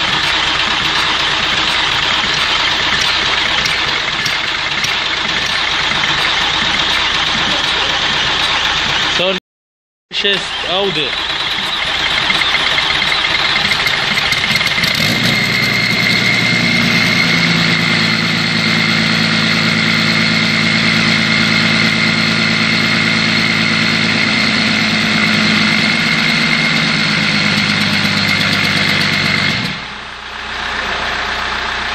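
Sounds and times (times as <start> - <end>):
car engine idling with whine: 0.0 - 9.4, 10.1 - 31.9.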